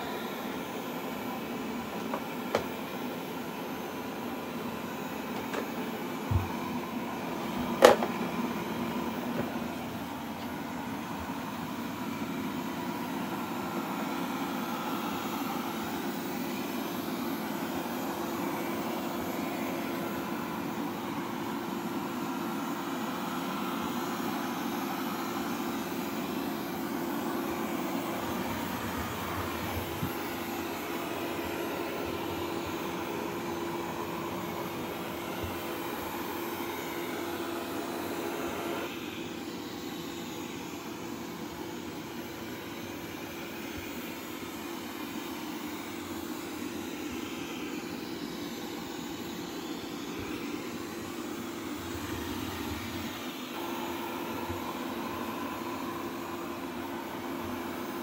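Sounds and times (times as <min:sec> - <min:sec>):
robot vacuum humming: 0:00.0 - 0:58.0.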